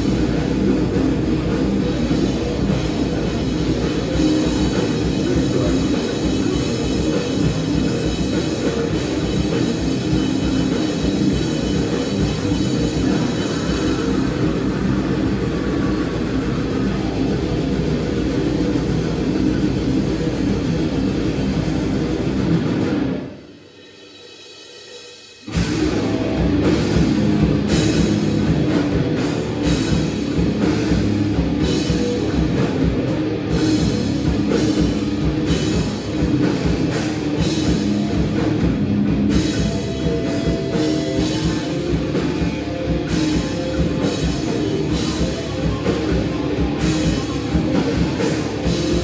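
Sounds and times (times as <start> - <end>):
bass guitar: 0.0 - 23.5, 25.4 - 49.0
distorted guitars: 0.0 - 49.0
drum kit: 0.0 - 49.0.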